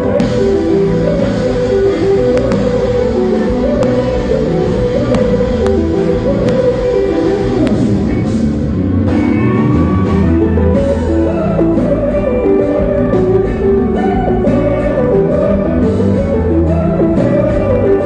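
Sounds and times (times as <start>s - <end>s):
bass guitar: 0.0s - 18.0s
drums: 0.0s - 18.0s
electric guitar melody: 0.0s - 18.0s.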